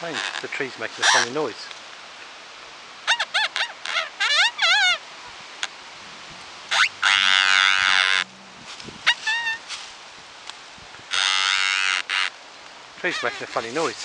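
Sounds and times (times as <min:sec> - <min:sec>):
tree squeaking: 0:00.0 - 0:01.5, 0:03.0 - 0:10.0, 0:10.9 - 0:14.0.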